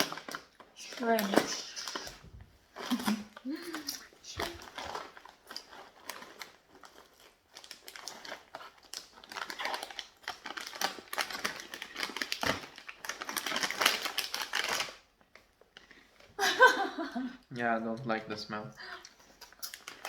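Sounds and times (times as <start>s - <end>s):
plastic snack packet crinkling: 0.0s - 16.4s, 17.9s - 20.0s.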